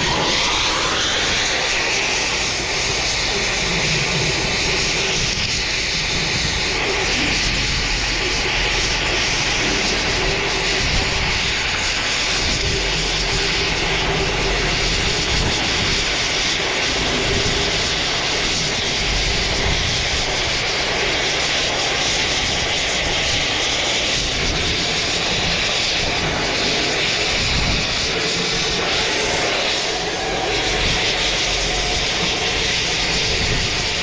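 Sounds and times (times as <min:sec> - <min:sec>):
power tool cutting metal: 0:00.0 - 0:34.0.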